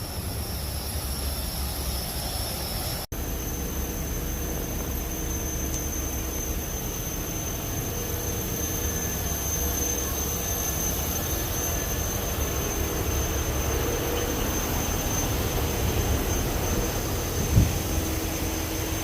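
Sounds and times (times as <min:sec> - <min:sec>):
air compressor humming and whining: 0:00.0 - 0:19.0.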